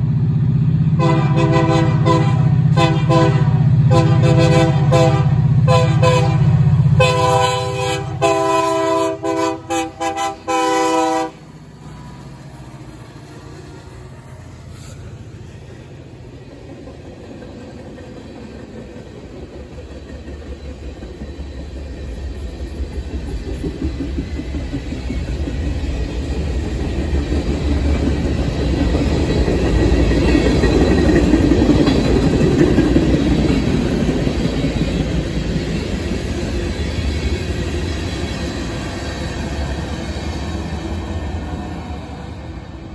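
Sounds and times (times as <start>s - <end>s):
freight train wheels on rails: 0.0s - 42.9s.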